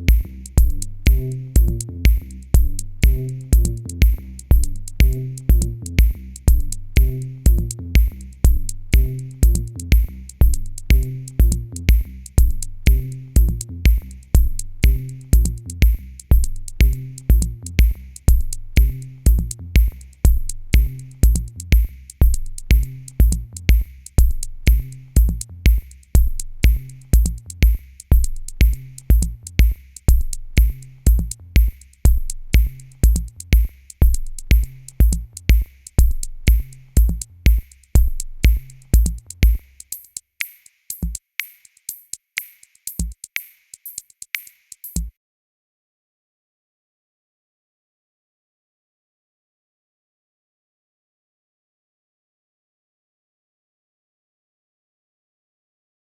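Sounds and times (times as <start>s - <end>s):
electronic music with drum beat: 0.0s - 45.1s.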